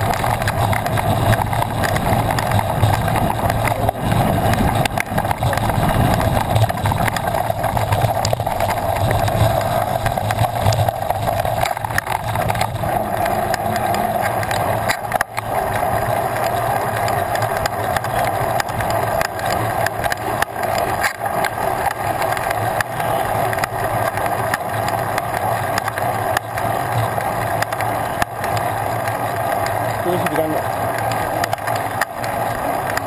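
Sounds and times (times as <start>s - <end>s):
bike rattles and clicks: 0.0s - 33.0s
bike tyres rolling on pavement: 0.0s - 33.0s.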